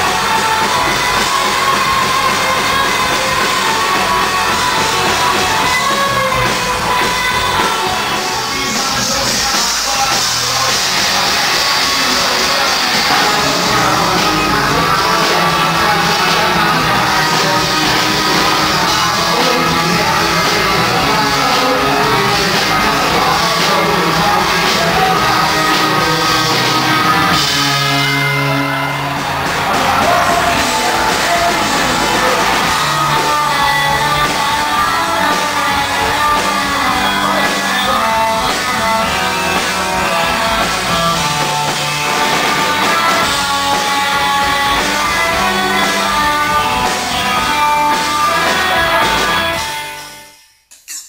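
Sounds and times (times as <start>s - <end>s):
person singing: 0.0s - 49.7s
electric guitars: 0.0s - 50.4s.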